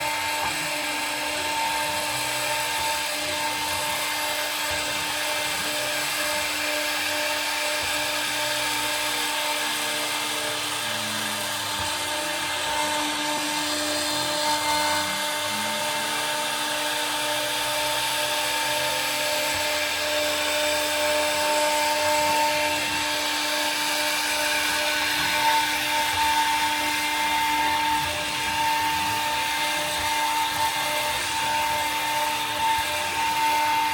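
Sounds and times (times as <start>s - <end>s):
router spindle whining: 0.0s - 33.9s.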